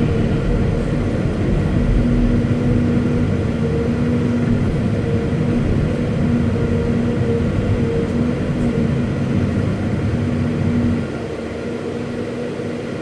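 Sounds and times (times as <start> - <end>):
excavator diesel engine running: 0.0 - 11.1.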